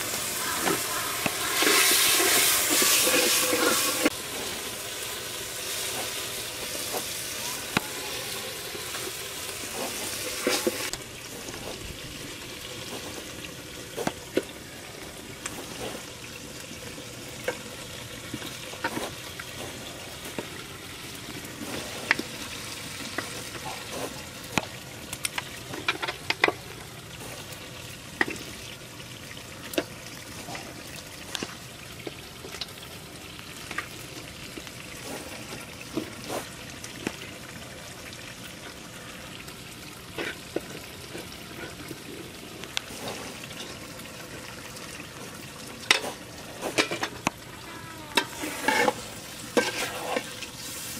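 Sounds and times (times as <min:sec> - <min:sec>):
meat sizzling in oil: 0:00.0 - 0:50.9.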